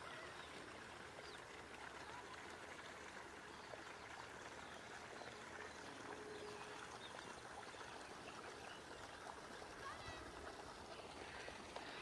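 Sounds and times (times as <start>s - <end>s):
faint outdoor background hiss: 0.0s - 12.0s.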